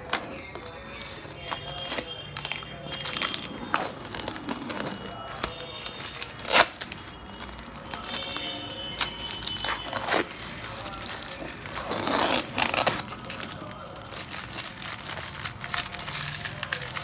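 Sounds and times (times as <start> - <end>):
packing material crinkling and tearing: 0.0 - 17.0.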